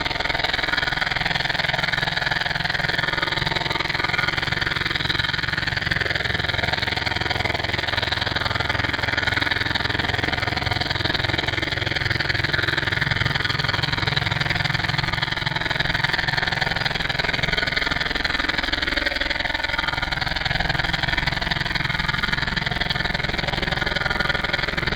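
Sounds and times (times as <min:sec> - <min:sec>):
pulsing engine-like drone: 0:00.0 - 0:24.9.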